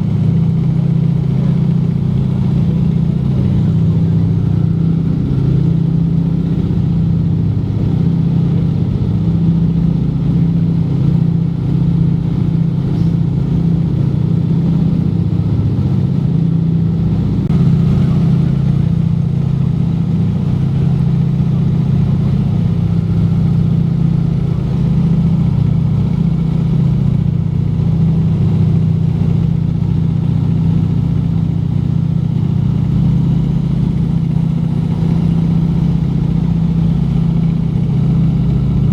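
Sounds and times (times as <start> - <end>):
aircraft radial engines droning: 0.0 - 38.9.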